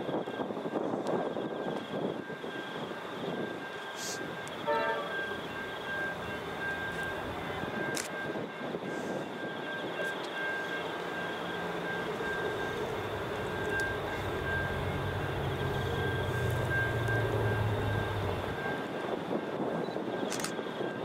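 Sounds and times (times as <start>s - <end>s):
diesel locomotive engine drone: 0.0s - 21.0s
outdoor background noise: 0.0s - 21.0s.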